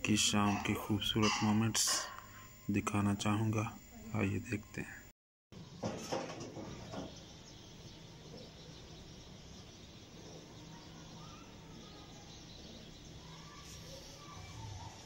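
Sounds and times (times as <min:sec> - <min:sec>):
faint birds chirping: 0:00.0 - 0:15.0
outdoor background hiss: 0:00.0 - 0:15.0.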